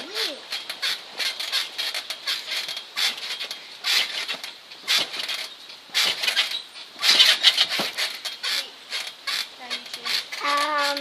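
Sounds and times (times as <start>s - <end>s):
trampoline springs squeaking: 0.0s - 11.0s.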